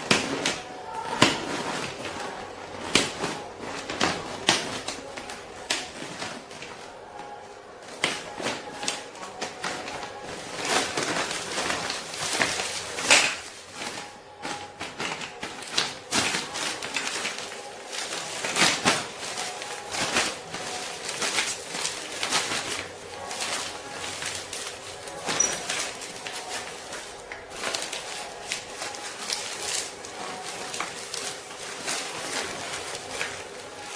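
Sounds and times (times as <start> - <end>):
rustling and clicks of gear handling: 0.0 - 33.9.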